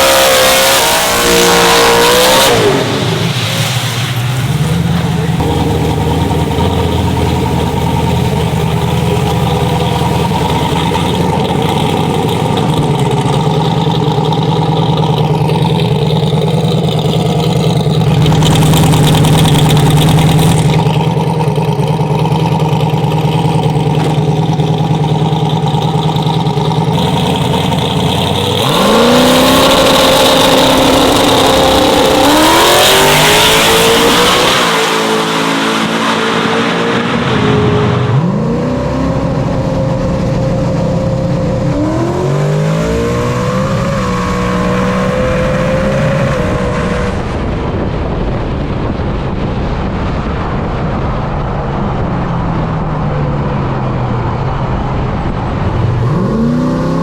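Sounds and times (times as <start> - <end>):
racing car engine revving: 0.0 - 47.9, 52.6 - 57.0.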